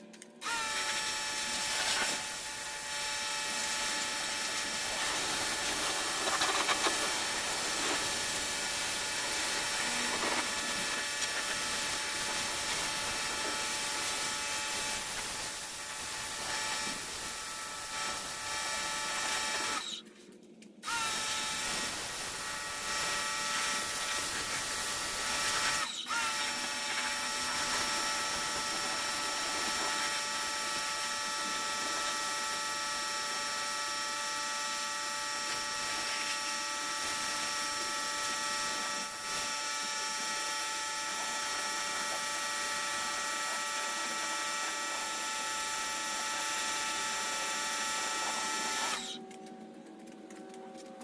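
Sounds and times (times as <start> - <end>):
electric motor whining: 0.4 - 20.0, 20.8 - 49.4.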